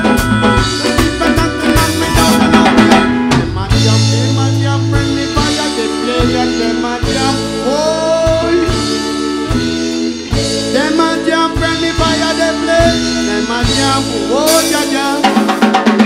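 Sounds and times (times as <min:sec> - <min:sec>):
bass guitar: 0:00.0 - 0:16.0
drum kit: 0:00.0 - 0:16.0
keyboard: 0:00.0 - 0:16.0
trombone sliding line: 0:00.0 - 0:16.0.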